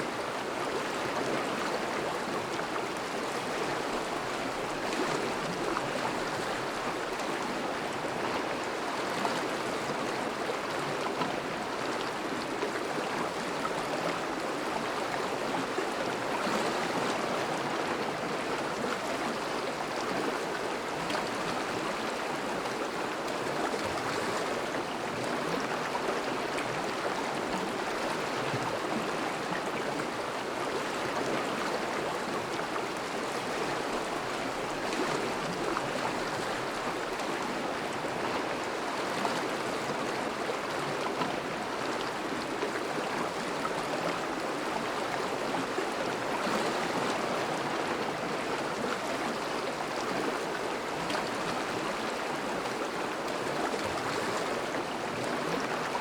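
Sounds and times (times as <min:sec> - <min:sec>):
river water rushing and babbling: 0:00.0 - 0:56.0.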